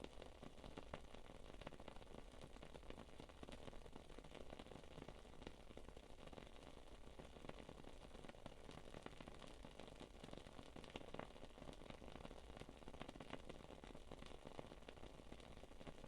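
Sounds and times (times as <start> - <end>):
candle wick crackling and popping: 0.0 - 16.0.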